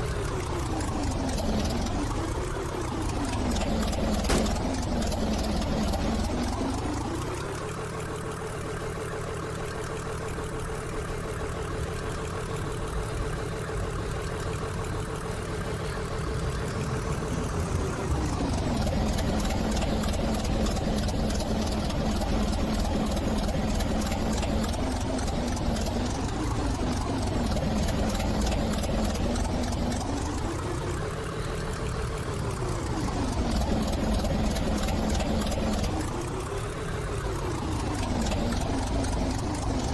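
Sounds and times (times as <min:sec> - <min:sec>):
train running with drive hum: 0:00.0 - 0:39.9.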